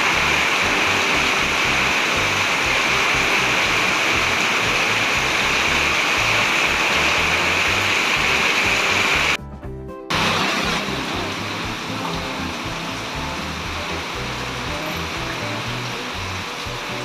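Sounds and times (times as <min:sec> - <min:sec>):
heavy rain pouring: 0:00.0 - 0:09.4, 0:10.1 - 0:17.0.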